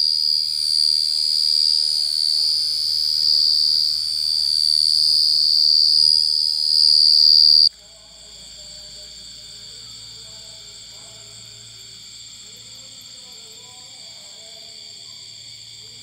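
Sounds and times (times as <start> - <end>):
cricket trilling: 0.0 - 16.0
faint insects trilling: 0.0 - 16.0.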